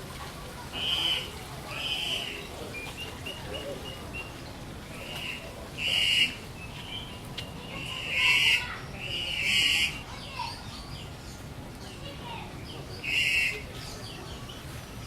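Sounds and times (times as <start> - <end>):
birds calling: 0.6 - 15.0.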